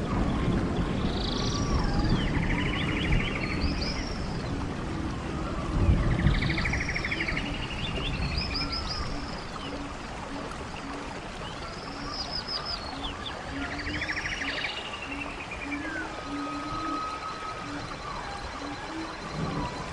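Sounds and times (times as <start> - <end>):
birds singing trills and whistles: 0.0 - 19.9
stream water rushing: 0.0 - 19.9.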